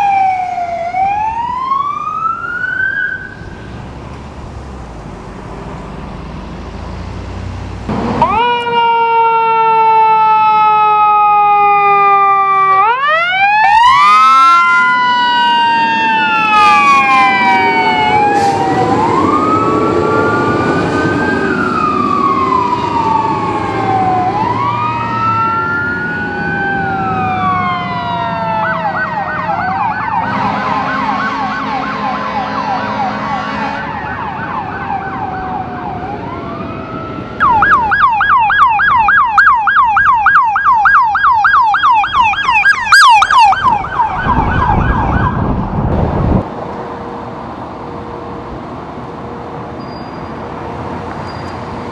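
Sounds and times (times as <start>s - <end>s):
fast-warbling siren: 0.0s - 3.7s, 8.1s - 46.4s
rapid siren yelp: 0.0s - 3.7s, 8.1s - 46.4s
sirens wailing: 0.0s - 51.9s.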